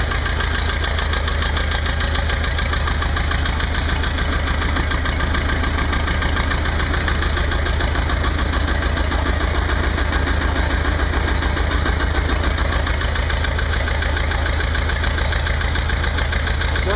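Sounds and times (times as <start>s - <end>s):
tractor diesel engine idling: 0.0s - 16.9s.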